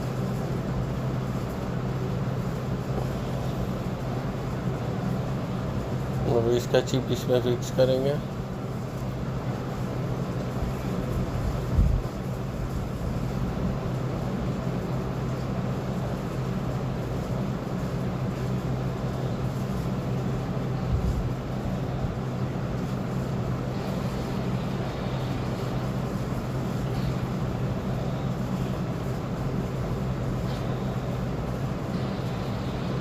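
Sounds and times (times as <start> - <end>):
heat gun fan humming: 0.0 - 33.0.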